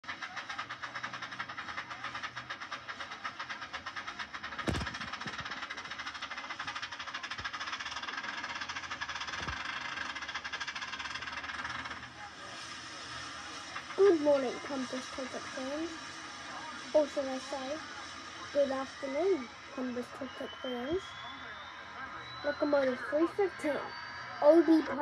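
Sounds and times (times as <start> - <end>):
steam engine chuffing hiss: 0.0 - 25.0.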